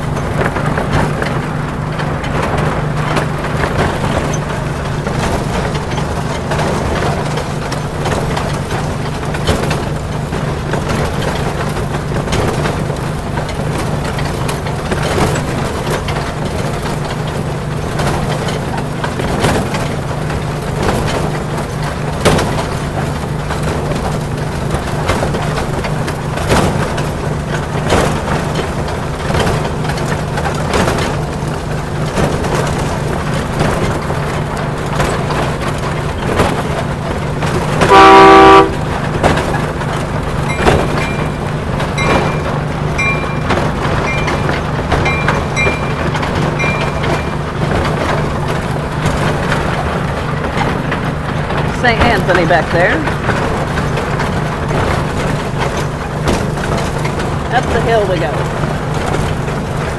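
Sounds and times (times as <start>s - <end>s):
miniature train engine hum: 0.0s - 59.9s
rattling ride noise: 0.0s - 59.9s
wheels clicking on rails: 0.0s - 59.9s.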